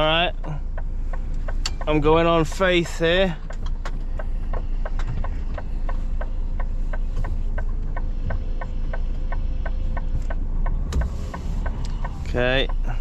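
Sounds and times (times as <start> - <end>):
diesel engine idling: 0.0 - 13.0
turn signal ticking: 0.0 - 13.0.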